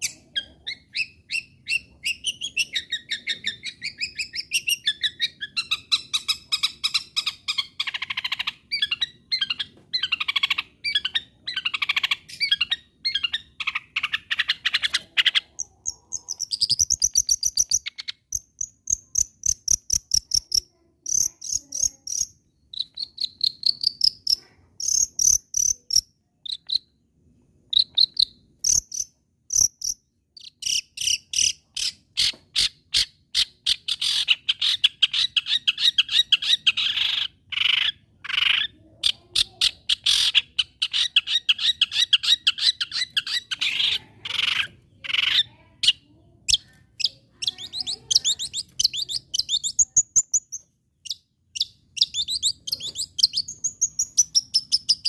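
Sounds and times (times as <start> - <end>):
bird scratchy chattering song: 0.0 - 26.9, 27.7 - 55.0.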